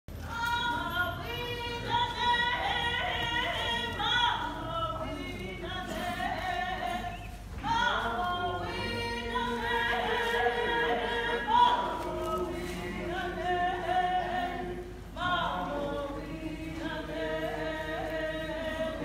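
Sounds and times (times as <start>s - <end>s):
group of people singing: 0.3s - 19.0s.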